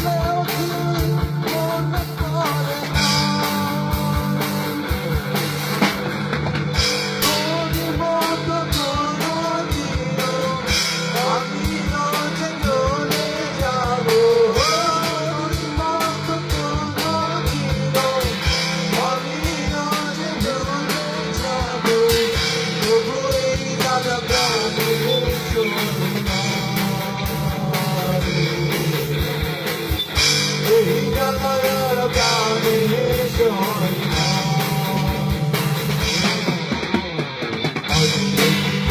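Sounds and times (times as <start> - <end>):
person singing: 0.0 - 5.4, 7.0 - 37.3, 37.9 - 38.9
bass line: 0.0 - 38.9
drum kit: 0.0 - 38.9
electric guitar: 0.0 - 38.9.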